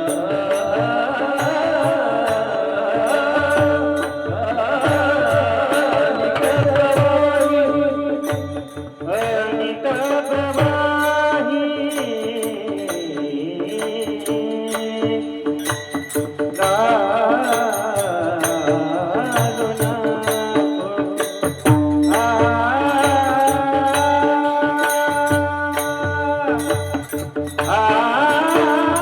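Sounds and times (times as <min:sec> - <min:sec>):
ornamented devotional melody: 0:00.0 - 0:29.0
ticking percussion beat: 0:00.0 - 0:29.0.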